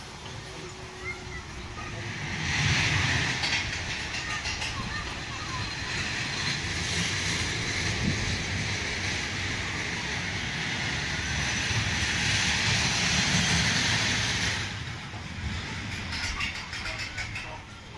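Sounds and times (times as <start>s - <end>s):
amusement ride machinery running: 0.0s - 17.9s.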